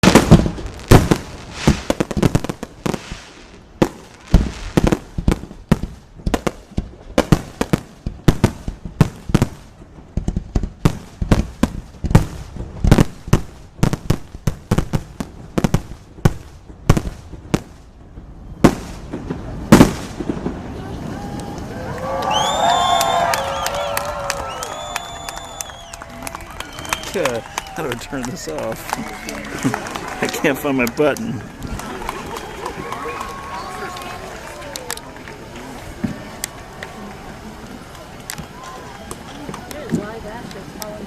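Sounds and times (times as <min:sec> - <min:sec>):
fireworks bursting: 0:00.0 - 0:41.0.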